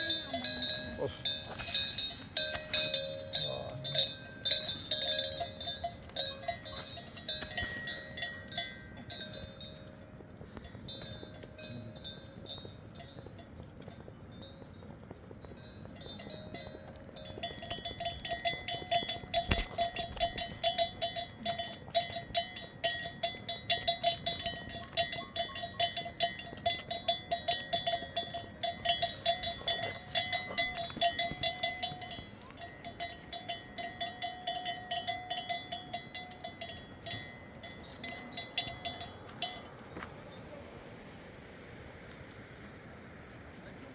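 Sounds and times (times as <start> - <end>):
metal livestock bell clanking: 0.0 - 40.6.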